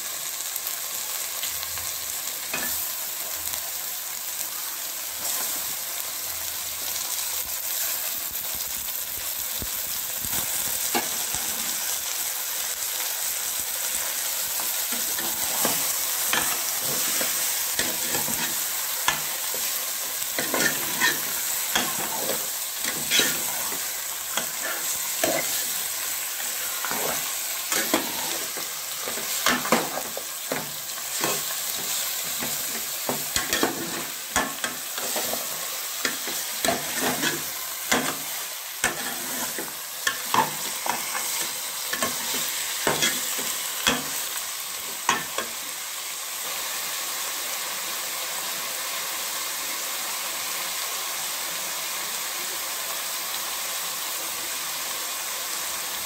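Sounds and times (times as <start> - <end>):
food sizzling in oil: 0.0 - 56.0.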